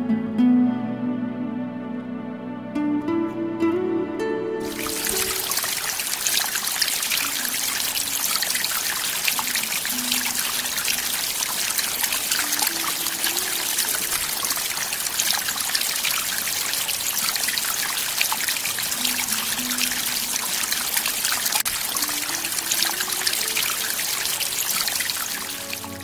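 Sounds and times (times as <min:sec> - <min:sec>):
stream trickling over rocks: 0:04.6 - 0:26.0.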